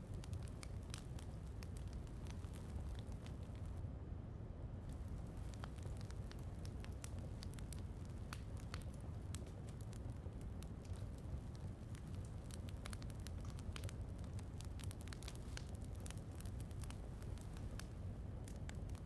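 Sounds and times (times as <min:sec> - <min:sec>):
wood fire crackling: 0:00.0 - 0:03.9, 0:04.8 - 0:19.0.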